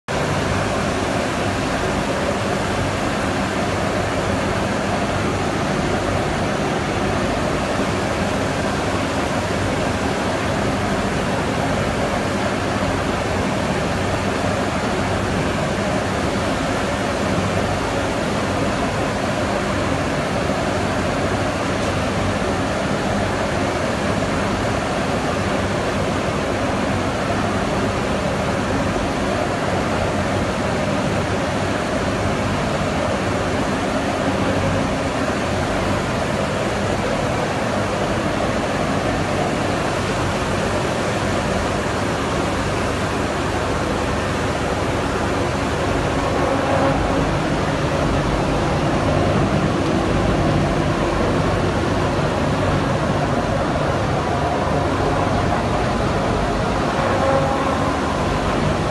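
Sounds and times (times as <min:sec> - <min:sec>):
industrial dryer running: 0:00.1 - 0:58.9.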